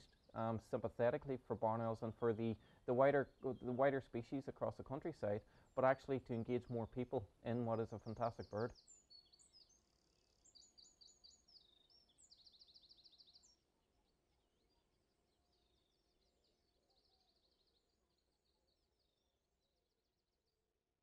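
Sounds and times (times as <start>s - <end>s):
faint songbird song: 0.0s - 20.8s.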